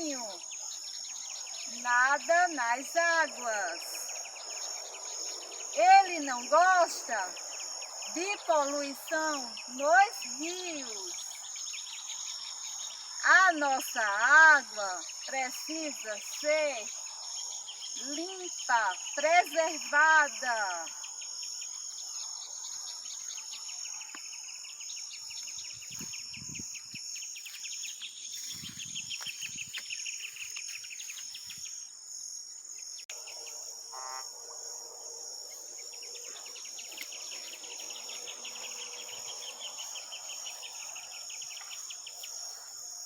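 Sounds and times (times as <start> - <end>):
insects chirping chorus: 0.0 - 43.0.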